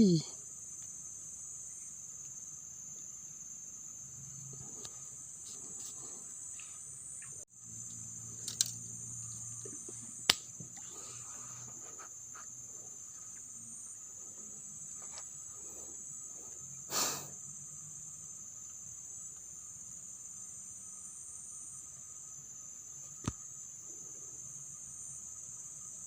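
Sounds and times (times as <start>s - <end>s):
crickets and insects chirping: 0.0s - 26.0s.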